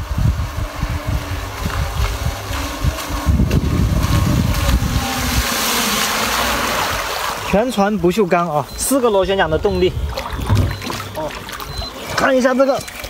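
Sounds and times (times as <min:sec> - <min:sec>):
wind rumbling on microphone: 0:00.0 - 0:12.2
motor hum of toy boat: 0:00.0 - 0:13.0.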